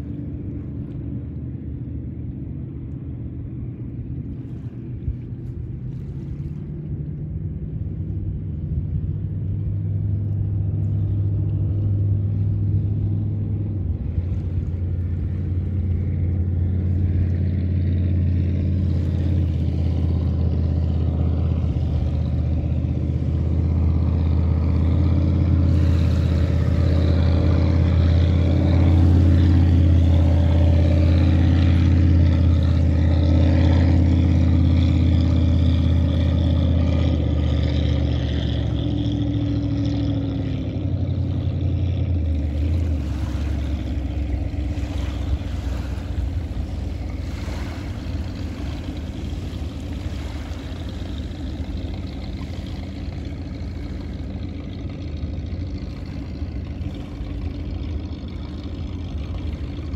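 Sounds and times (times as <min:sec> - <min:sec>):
motorboat engine drone: 0:00.0 - 0:59.9.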